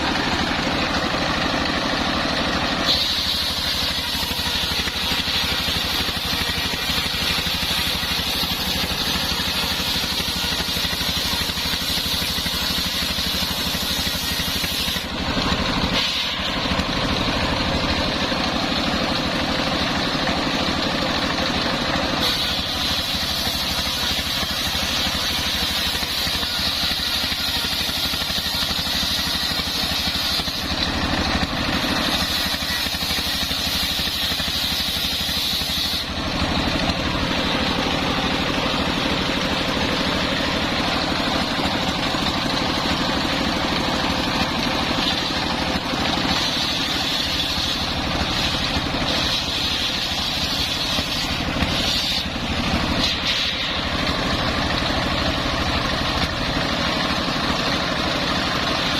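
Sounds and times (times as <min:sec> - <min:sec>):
engine drone: 0:00.0 - 0:58.9.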